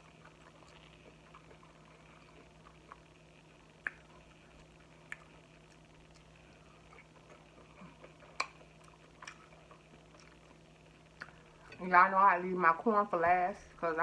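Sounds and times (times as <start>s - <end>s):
wet chewing sounds: 0.0s - 11.8s.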